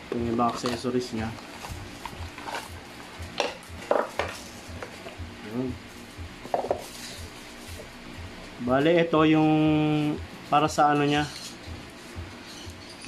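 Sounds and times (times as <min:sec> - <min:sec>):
quiet background music with beat: 0:00.0 - 0:13.0.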